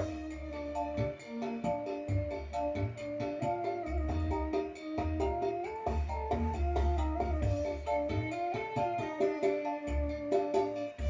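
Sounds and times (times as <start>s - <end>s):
heavy pulsing bass line: 0.0s - 9.1s
music from speaker: 0.0s - 11.0s.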